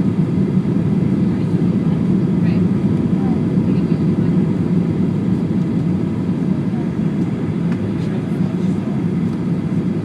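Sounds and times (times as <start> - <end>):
airplane cabin noise: 0.0 - 10.0.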